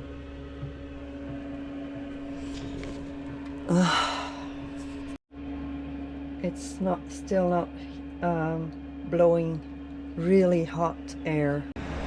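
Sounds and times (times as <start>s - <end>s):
heater blower humming: 0.0s - 12.0s.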